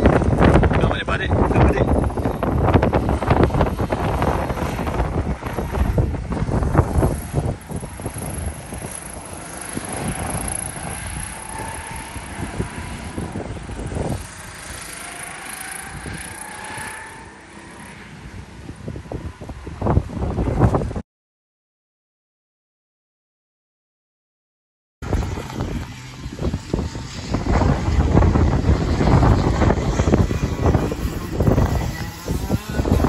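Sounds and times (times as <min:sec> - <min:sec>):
go-kart engines running: 0:00.0 - 0:20.9, 0:25.0 - 0:33.0
wind buffeting microphone: 0:00.0 - 0:21.0, 0:25.0 - 0:33.0.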